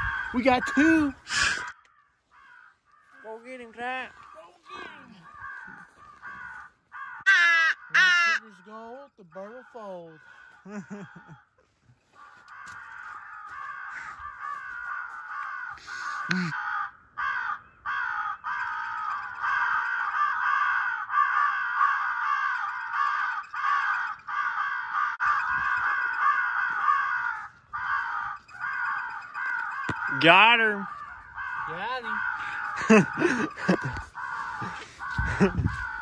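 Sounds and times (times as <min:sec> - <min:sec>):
crows cawing: 0:00.0 - 0:36.0.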